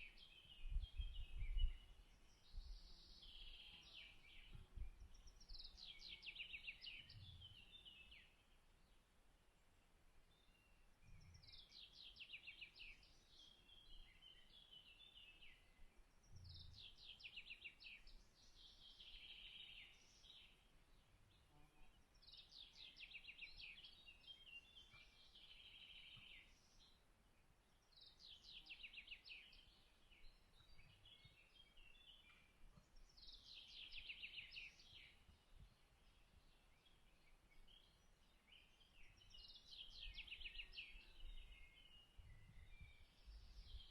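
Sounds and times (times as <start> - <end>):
faint outdoor background noise: 0.0 - 43.9
songbird singing: 0.0 - 43.9.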